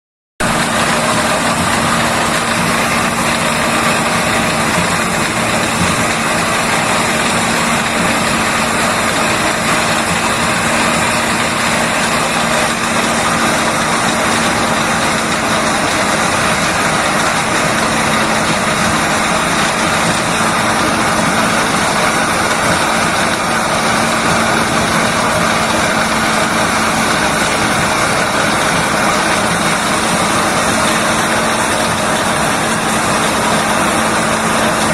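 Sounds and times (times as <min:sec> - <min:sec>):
corn-shelling machine running: 0:00.4 - 0:34.9.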